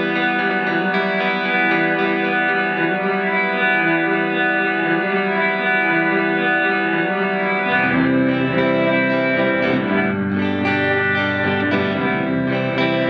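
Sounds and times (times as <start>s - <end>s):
electric guitar with reverb: 0.0s - 13.0s.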